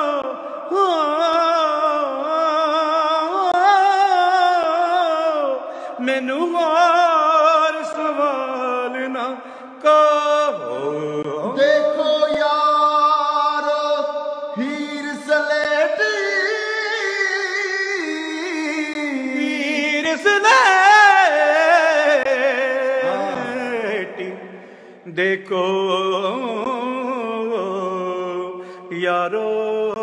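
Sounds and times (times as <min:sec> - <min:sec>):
man singing unaccompanied: 0:00.0 - 0:30.0.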